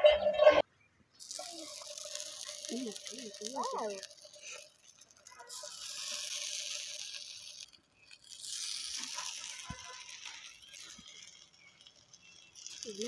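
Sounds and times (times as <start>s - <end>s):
food sizzling in hot oil: 1.2s - 13.0s.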